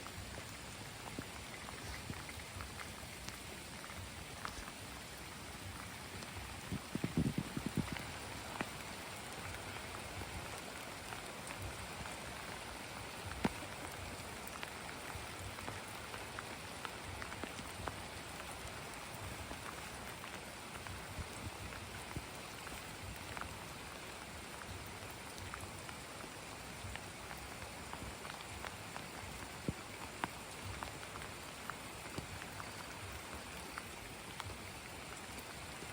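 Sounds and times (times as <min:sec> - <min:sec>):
steady rain falling: 0:00.0 - 0:35.9
water drips and ticks: 0:00.0 - 0:35.9.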